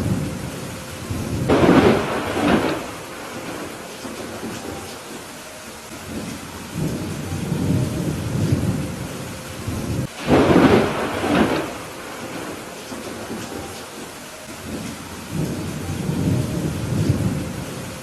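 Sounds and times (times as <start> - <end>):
rolling thunder: 0.0 - 5.3, 6.0 - 18.0
steady rain: 0.0 - 18.0.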